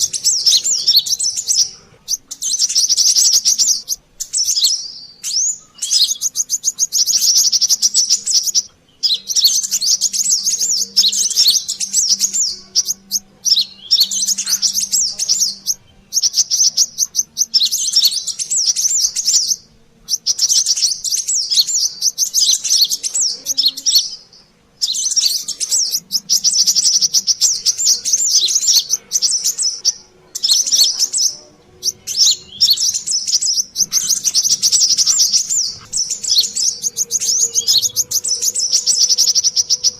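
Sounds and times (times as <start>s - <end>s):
sunbird chattering song: 0.0s - 39.9s.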